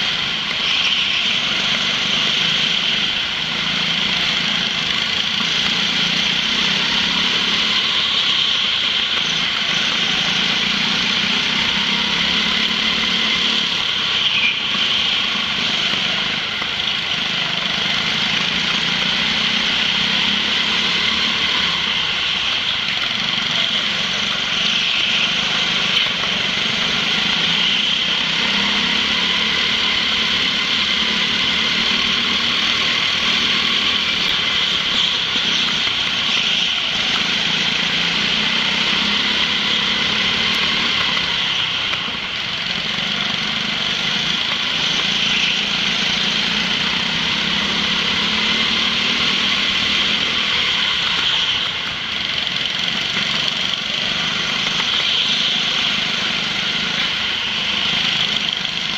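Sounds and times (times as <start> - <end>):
go-kart engines buzzing: 0.0 - 58.9.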